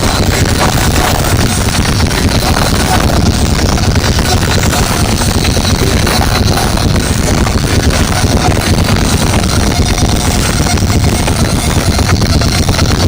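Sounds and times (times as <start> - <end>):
distorted live punk band: 0.0 - 13.0.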